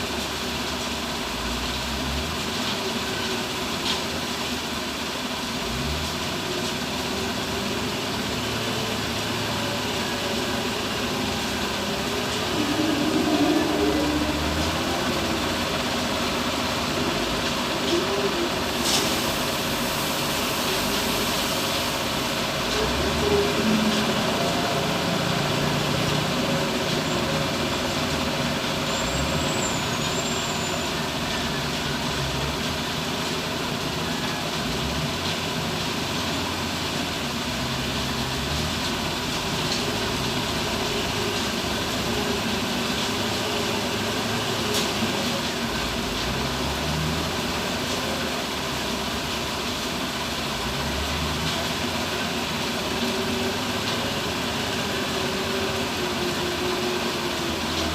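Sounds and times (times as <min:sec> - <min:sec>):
heavy diesel machinery engines: 0:00.0 - 0:57.9.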